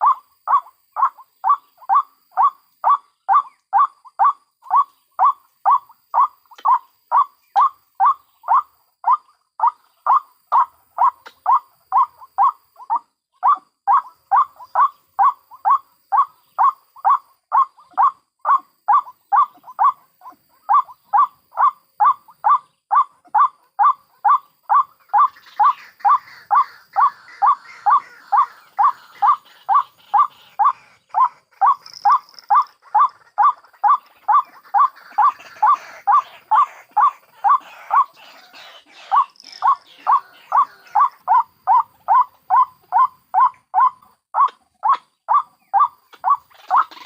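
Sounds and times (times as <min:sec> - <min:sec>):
faint high bird chatter: 0:00.0 - 0:47.0
waterhen calling: 0:00.0 - 0:47.0.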